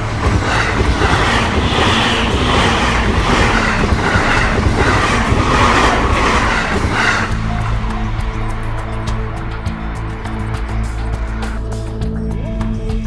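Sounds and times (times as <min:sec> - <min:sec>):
train wheels rumbling on a bridge: 0:00.0 - 0:11.6.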